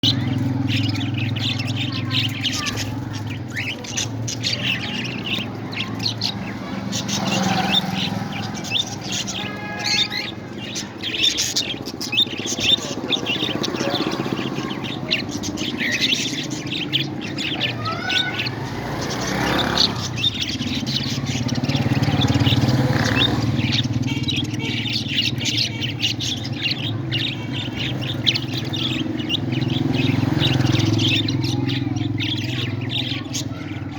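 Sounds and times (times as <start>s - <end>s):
parrots chirping and calling: 0.0s - 33.9s.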